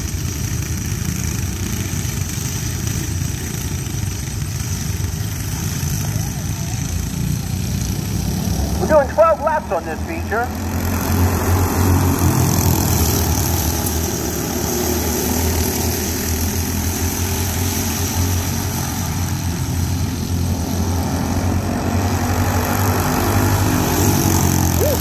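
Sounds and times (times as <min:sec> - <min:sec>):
go-kart engines buzzing: 0:00.0 - 0:25.0.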